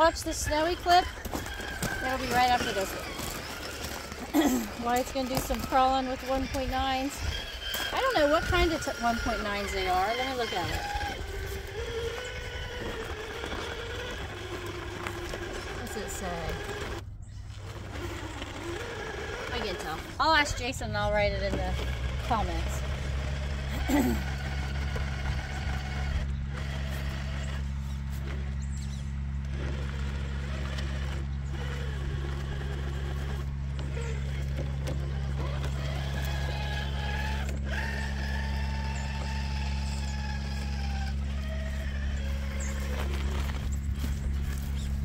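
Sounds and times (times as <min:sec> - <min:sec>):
electric motor whining: 0:00.0 - 0:45.0
steady low hum: 0:00.0 - 0:45.0.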